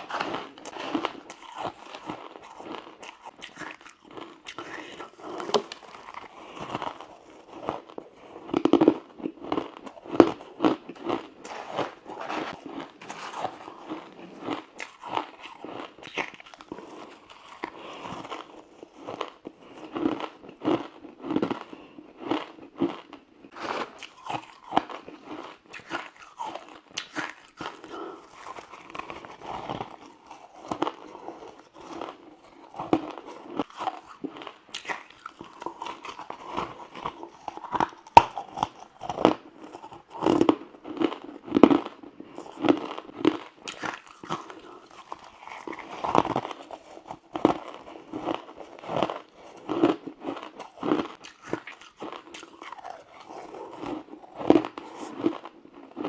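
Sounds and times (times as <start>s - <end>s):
chewing: 0.0s - 56.0s
ice crunching between teeth: 0.0s - 56.0s.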